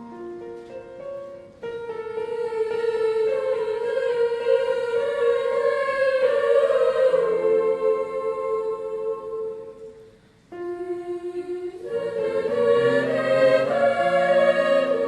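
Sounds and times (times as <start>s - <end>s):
choir-like voices holding chords: 1.8s - 15.0s.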